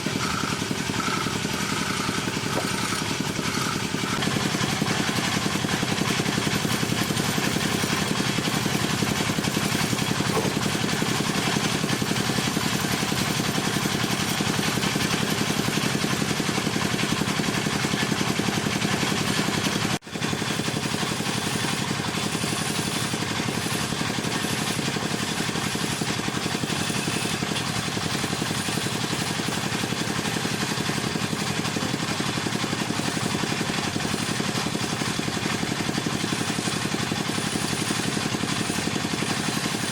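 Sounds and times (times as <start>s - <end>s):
tool chattering on spinning wood: 0.0s - 39.9s
wood lathe motor hum: 0.0s - 39.9s.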